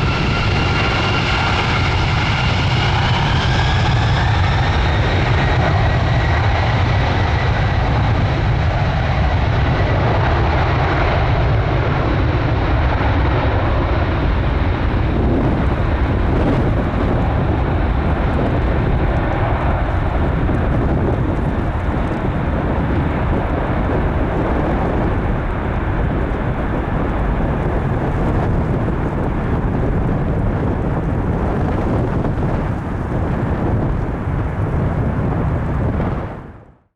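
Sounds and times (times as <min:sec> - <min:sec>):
jet engines roaring: 0:00.0 - 0:36.7
high engine whine: 0:00.0 - 0:36.8.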